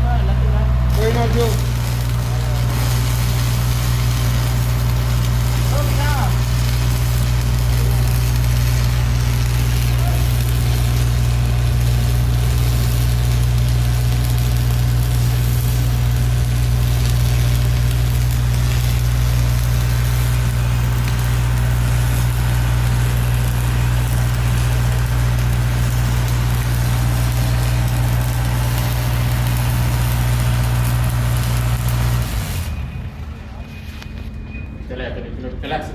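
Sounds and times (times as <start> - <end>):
arc welding crackling hum: 0.0 - 35.9.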